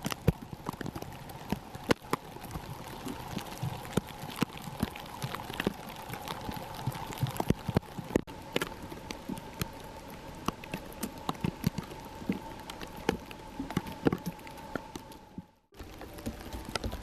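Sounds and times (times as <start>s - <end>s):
faint steady hum: 0.0s - 17.0s
wet snow pattering: 0.0s - 17.0s.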